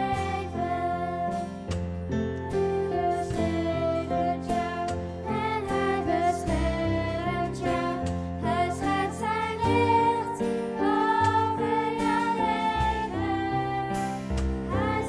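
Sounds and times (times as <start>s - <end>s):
children singing: 0.0s - 1.6s, 2.6s - 15.0s
acoustic guitar: 0.0s - 15.0s.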